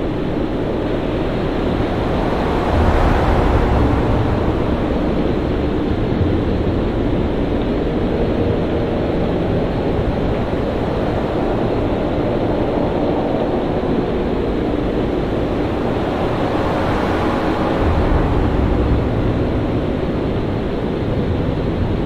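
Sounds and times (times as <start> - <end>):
deep rumble: 0.0 - 22.0
waves and wind: 0.0 - 22.0.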